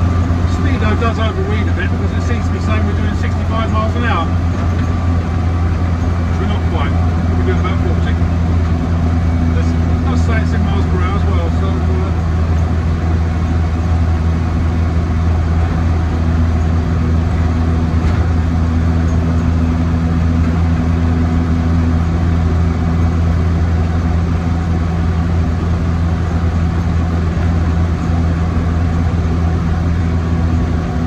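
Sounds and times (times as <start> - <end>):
car engine droning: 0.0 - 31.0
road noise: 0.0 - 31.0.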